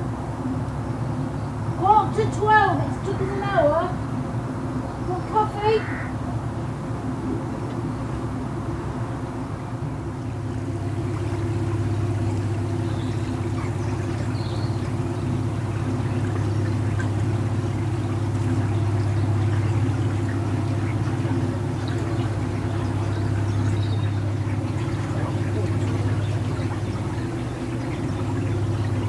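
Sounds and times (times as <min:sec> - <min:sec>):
boat diesel engine droning: 0:00.0 - 0:29.0.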